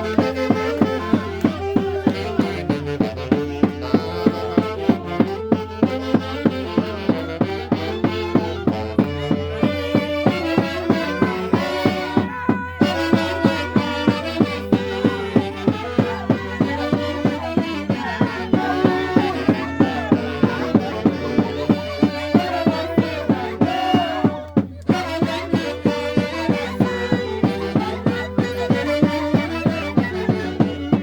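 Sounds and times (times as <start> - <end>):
fast steady drumbeat: 0.0 - 31.0.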